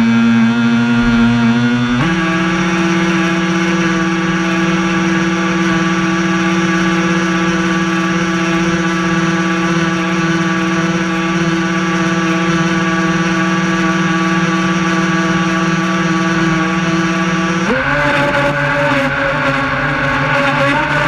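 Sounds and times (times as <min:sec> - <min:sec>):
electric motor whine: 0:00.0 - 0:21.0
water rushing along hull: 0:00.0 - 0:21.0.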